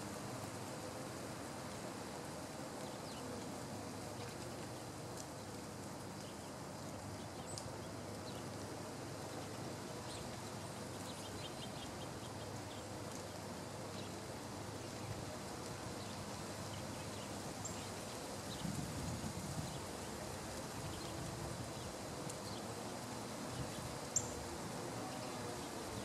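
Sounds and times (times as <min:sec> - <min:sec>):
steady background hiss: 0:00.0 - 0:26.0
small ticks: 0:02.7 - 0:14.1, 0:14.8 - 0:24.5.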